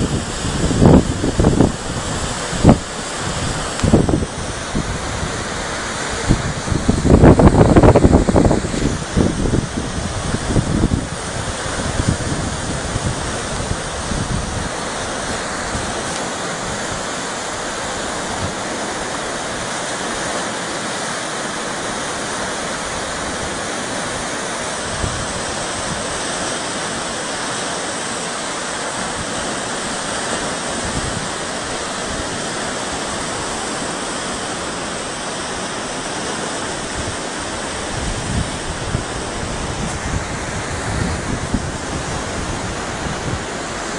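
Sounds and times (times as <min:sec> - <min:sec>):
low rumbling gusts: 0:00.0 - 0:20.4, 0:21.0 - 0:27.2, 0:28.6 - 0:43.9
floodwater rushing: 0:00.0 - 0:43.9.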